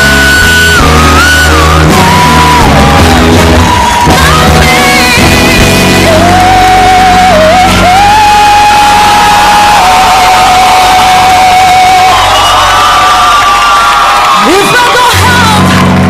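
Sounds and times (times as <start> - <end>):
loud backing music: 0.0 - 16.0.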